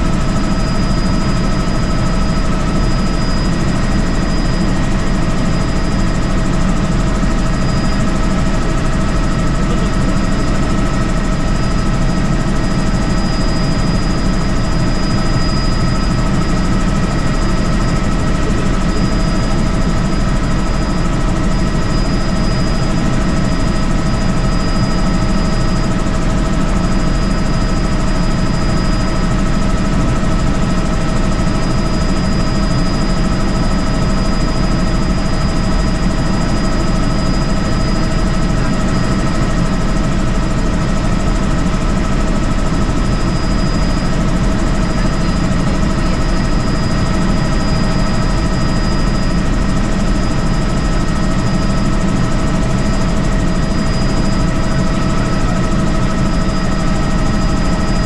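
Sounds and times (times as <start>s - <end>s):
helicopter rotor and engine drone: 0.0s - 58.0s
thin high whine: 0.0s - 58.0s.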